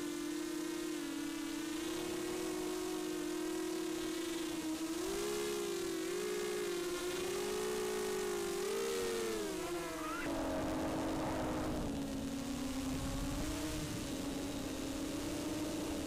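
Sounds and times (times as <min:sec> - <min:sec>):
quadcopter motors whining: 0:00.1 - 0:16.0.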